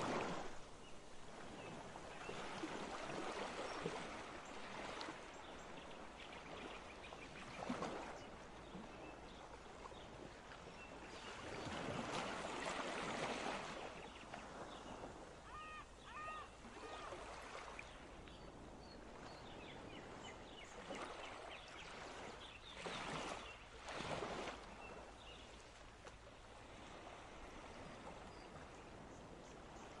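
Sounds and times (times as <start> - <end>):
faint water-like rushing: 0.0 - 30.0.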